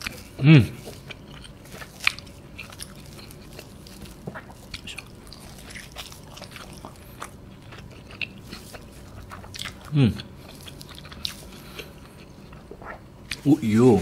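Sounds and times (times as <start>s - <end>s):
person chewing wet smacks: 0.0s - 13.5s.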